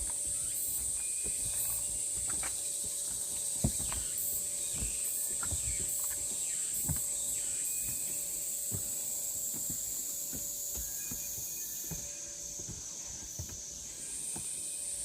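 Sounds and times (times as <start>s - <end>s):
low knocks and thumps: 0.0s - 13.7s
cicadas droning: 0.0s - 15.0s
high pulsing insect call: 0.0s - 15.0s.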